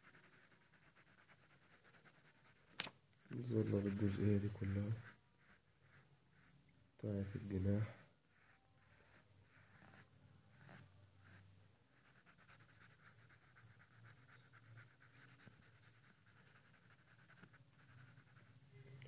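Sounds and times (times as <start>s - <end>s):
pencil scratching on paper: 0.0s - 19.0s.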